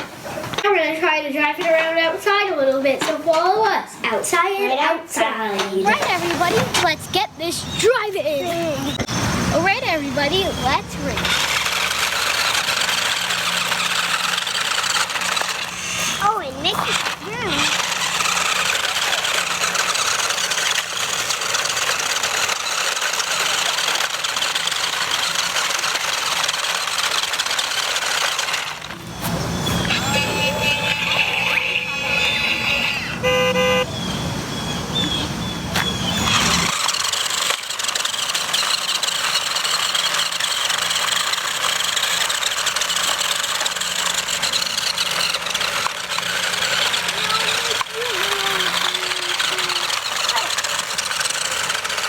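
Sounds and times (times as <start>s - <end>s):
wheels rattling on ground: 5.2s - 52.0s
toy car motor whirring: 5.7s - 33.8s, 34.6s - 52.0s.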